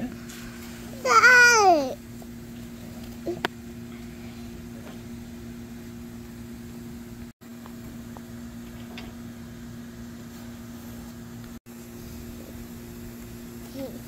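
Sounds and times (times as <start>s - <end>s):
mechanical hum with rumble: 0.0s - 14.0s.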